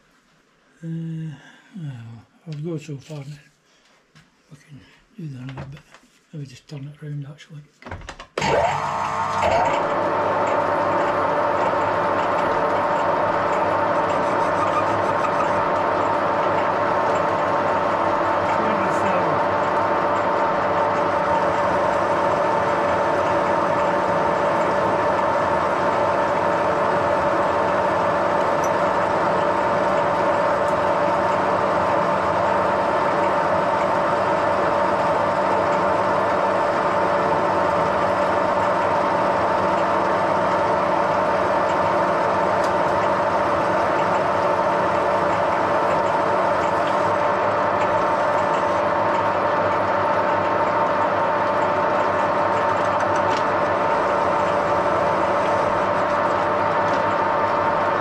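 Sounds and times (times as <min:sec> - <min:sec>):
machine tool motor and gear whine: 0:08.4 - 0:58.0.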